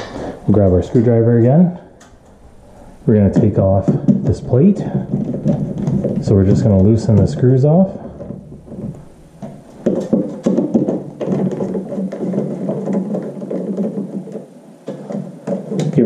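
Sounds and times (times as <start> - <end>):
low steady background sound: 0.0 - 16.0.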